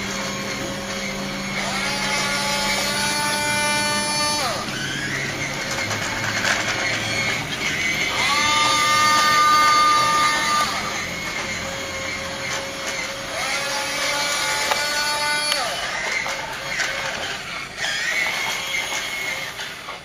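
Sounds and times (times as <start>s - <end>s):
electric motors whining: 0.0s - 20.0s.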